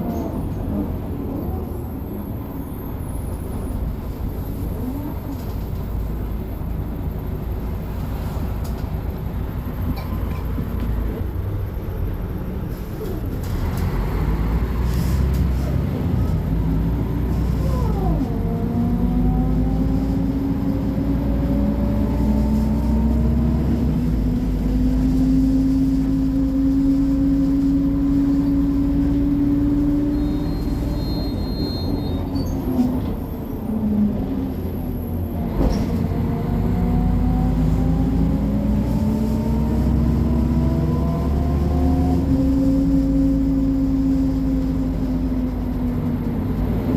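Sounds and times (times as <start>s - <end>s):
bus diesel engine accelerating: 0.0s - 46.9s.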